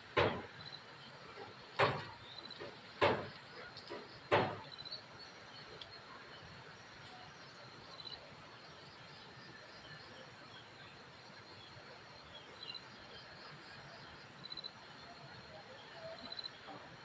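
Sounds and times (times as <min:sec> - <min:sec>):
insects chirping: 0:00.2 - 0:15.4, 0:16.0 - 0:16.7.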